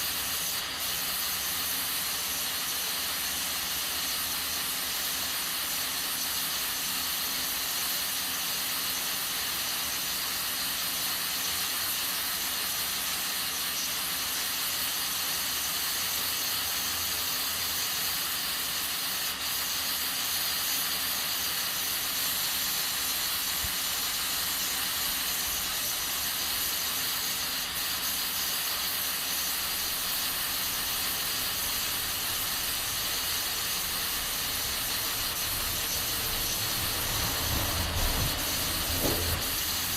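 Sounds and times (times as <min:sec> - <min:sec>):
pressure cooker hissing steam: 0:00.0 - 0:39.9.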